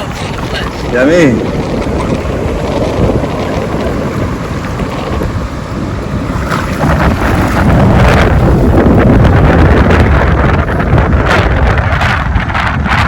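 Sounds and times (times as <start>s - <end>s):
sea water washing: 0.0s - 11.4s
wind buffeting microphone: 0.0s - 13.0s.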